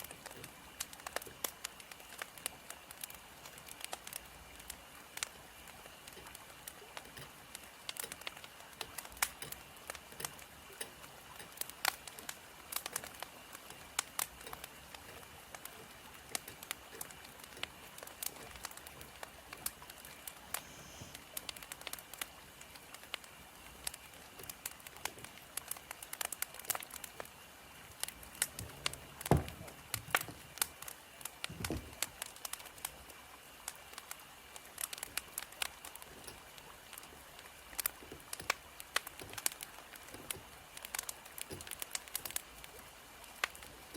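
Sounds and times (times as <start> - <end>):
firewood crackling and popping: 0.0 - 43.9.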